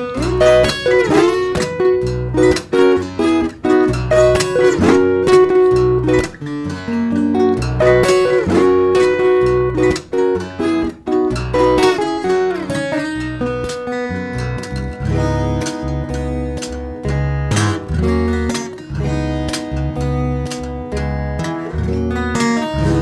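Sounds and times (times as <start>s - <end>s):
fingerstyle acoustic guitar: 0.0s - 23.0s.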